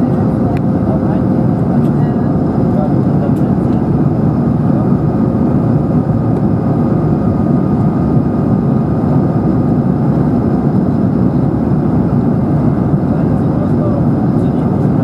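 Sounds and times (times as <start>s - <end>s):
aircraft cabin roar: 0.0s - 15.0s
jet engines rushing: 0.0s - 15.0s.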